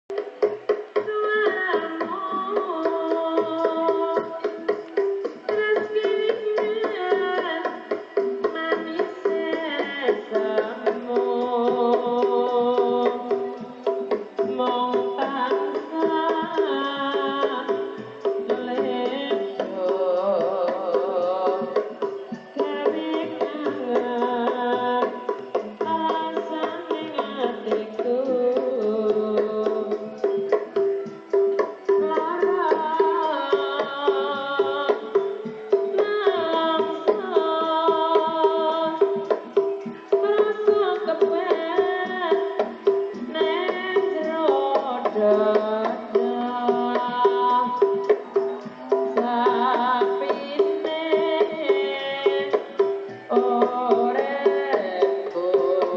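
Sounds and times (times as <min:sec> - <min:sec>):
music with hand drumming: 0:00.1 - 0:55.9.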